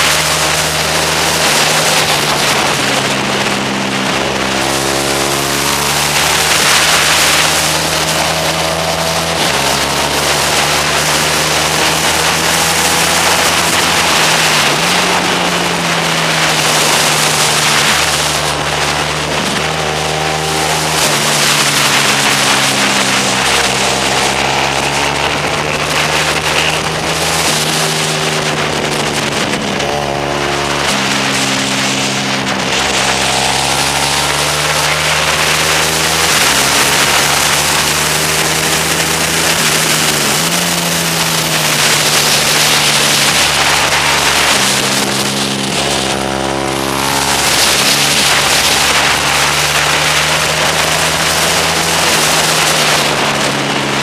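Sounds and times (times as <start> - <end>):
motorcycle engine running hard: 0.0 - 54.0
wind rush on microphone: 0.0 - 54.0.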